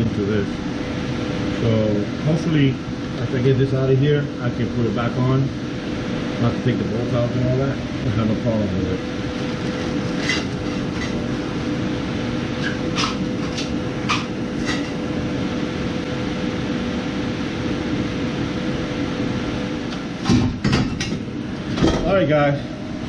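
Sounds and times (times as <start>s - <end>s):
mechanical hum with whine: 0.0s - 23.0s.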